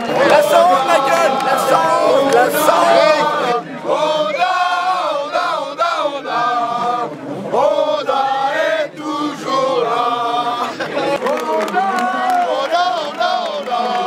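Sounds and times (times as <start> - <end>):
crowd chanting in unison: 0.0 - 14.0.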